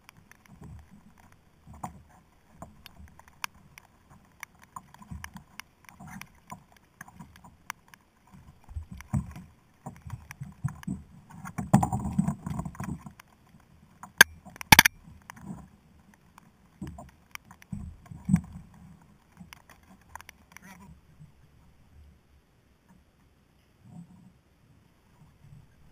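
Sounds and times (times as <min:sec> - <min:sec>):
light clicks of fishing gear: 0:00.0 - 0:21.4
rustling: 0:00.0 - 0:21.6.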